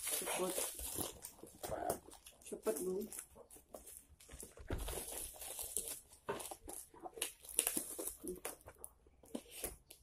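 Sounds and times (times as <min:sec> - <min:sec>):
plastic wrap crinkling and tearing: 0:00.0 - 0:10.0.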